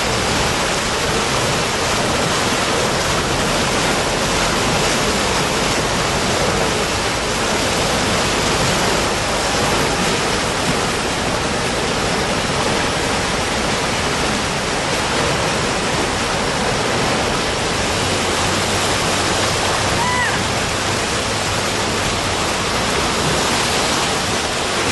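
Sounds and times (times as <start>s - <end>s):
floodwater rushing: 0.0s - 24.9s.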